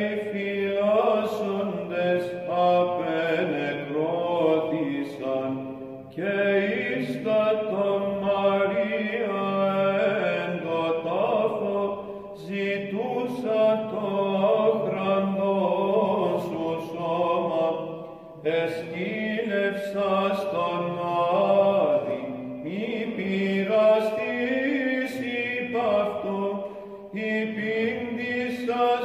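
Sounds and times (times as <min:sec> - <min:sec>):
held vocal drone: 0:00.0 - 0:29.0.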